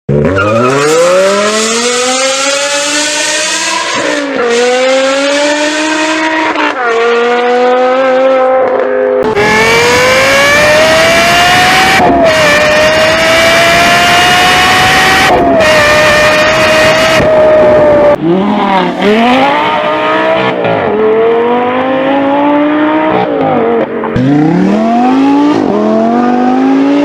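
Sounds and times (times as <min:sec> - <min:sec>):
sports car engines accelerating: 0:00.1 - 0:27.0.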